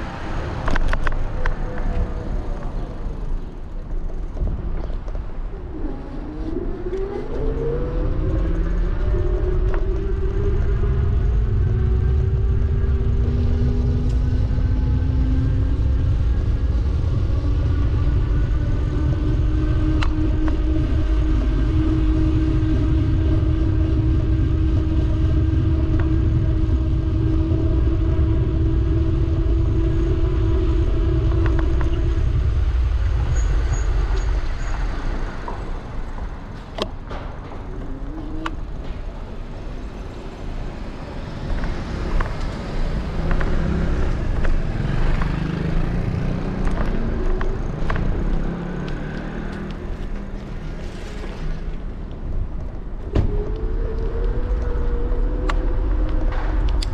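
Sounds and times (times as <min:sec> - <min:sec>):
wind rumble on microphone: 0:00.0 - 0:56.9.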